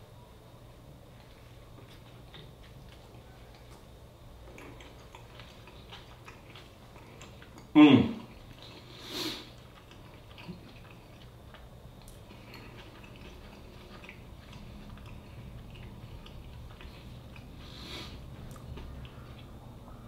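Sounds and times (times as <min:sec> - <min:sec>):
low room hum: 0:00.0 - 0:20.0
mouth clicks chewing: 0:01.2 - 0:20.0.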